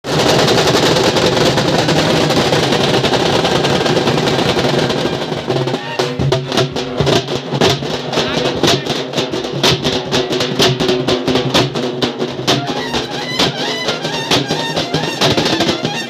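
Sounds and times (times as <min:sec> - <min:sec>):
frame drums played fast: 0:00.0 - 0:16.0.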